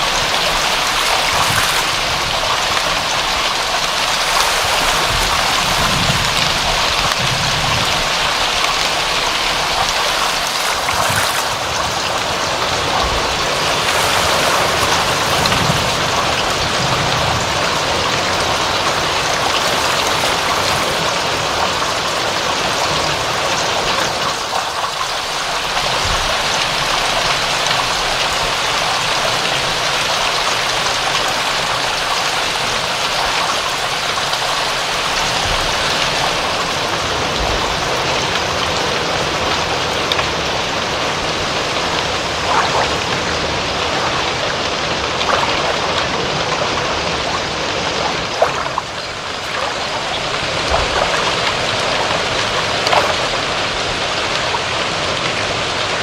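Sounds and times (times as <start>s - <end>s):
individual raindrops: 0.0s - 56.0s
steady rain: 0.0s - 56.0s.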